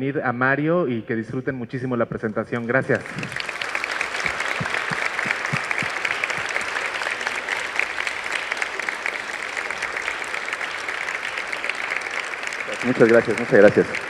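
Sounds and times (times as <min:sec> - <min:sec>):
audience applauding: 0:02.6 - 0:14.0.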